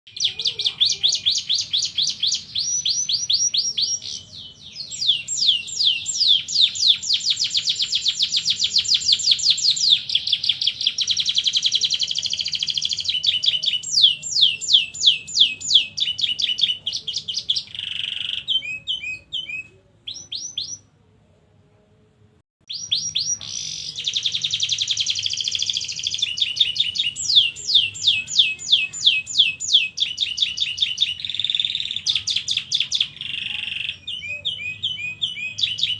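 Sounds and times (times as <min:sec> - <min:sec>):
canary singing: 0:00.1 - 0:20.9, 0:22.6 - 0:35.9.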